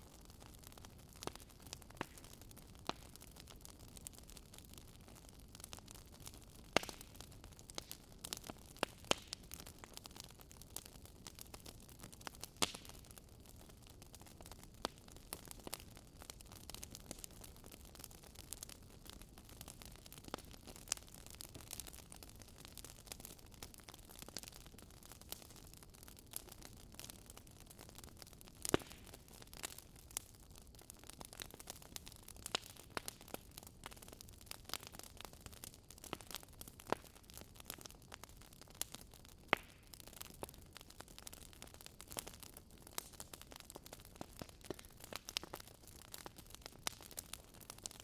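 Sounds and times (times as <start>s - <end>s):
campfire crackling and popping: 0.0s - 48.0s.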